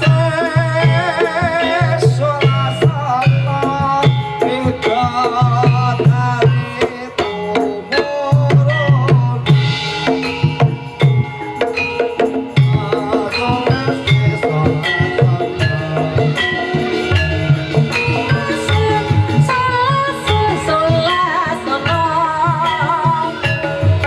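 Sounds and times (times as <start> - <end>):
hand drums playing fast strokes: 0.0 - 24.0
metallophones and gongs ringing: 0.0 - 24.0.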